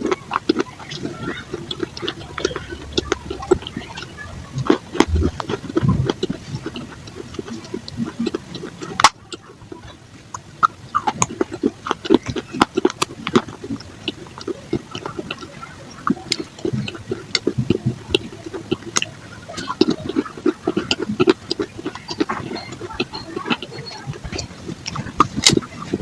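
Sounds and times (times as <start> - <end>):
crunching dry clay being chewed: 0.0 - 26.0.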